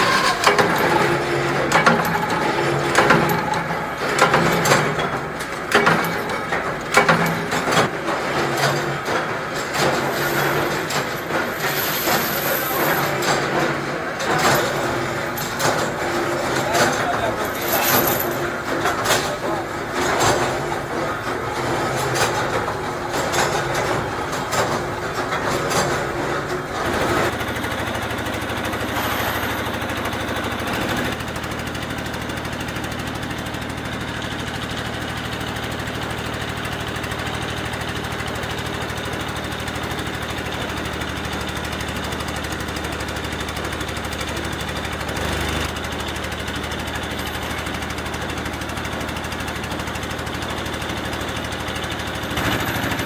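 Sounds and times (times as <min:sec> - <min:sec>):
factory machinery clattering: 0:00.0 - 0:53.0.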